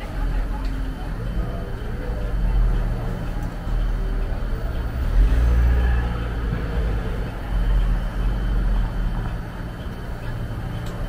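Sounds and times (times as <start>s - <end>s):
bus rumble and road noise: 0.0s - 11.0s.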